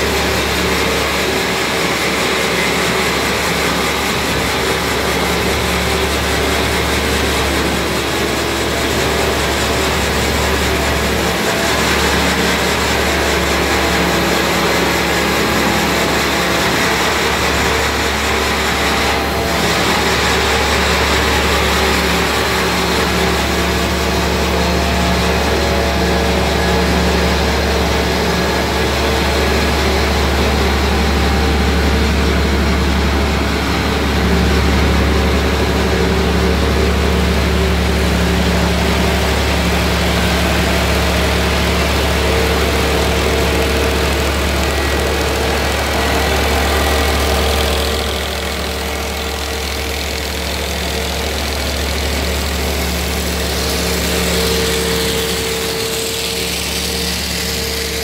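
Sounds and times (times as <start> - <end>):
machinery engine drone: 0.0 - 58.0.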